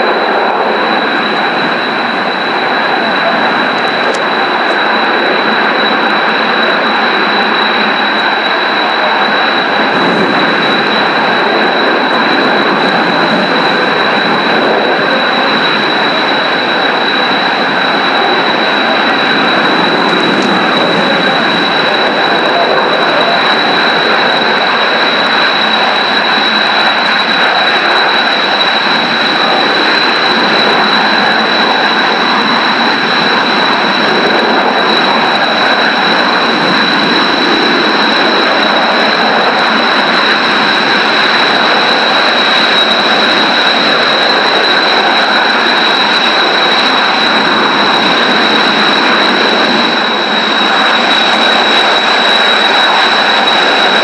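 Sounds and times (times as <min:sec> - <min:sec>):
high-pitched jet whine: 0:00.0 - 0:54.0
jet engines rushing: 0:00.0 - 0:54.0.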